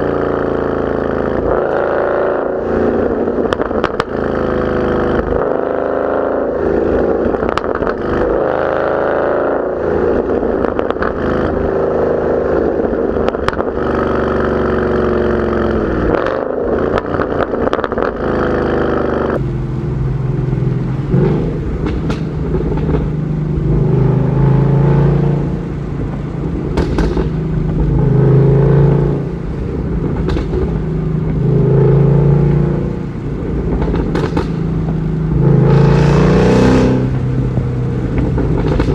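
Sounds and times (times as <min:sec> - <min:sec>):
car engine revving: 0:00.0 - 0:38.9
exhaust crackles and pops: 0:02.7 - 0:05.7, 0:06.6 - 0:08.5, 0:09.6 - 0:14.7, 0:15.4 - 0:38.9.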